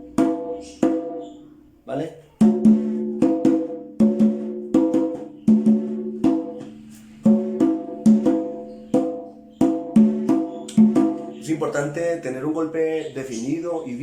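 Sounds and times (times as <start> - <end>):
conga drum open tones: 0.0 - 1.6, 2.2 - 14.0.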